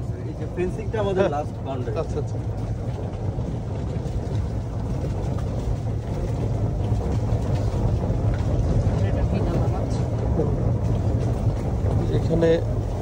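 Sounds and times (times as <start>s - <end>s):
golf cart tyres rumbling: 0.0s - 13.0s.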